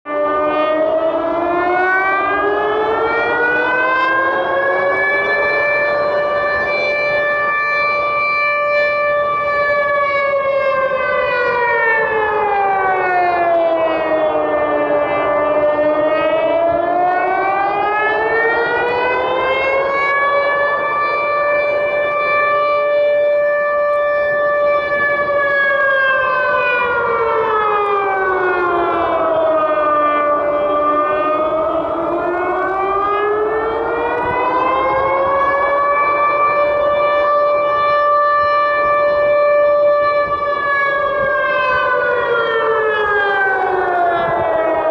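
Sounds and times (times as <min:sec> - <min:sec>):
civil defence siren wailing: 0:00.0 - 0:44.9.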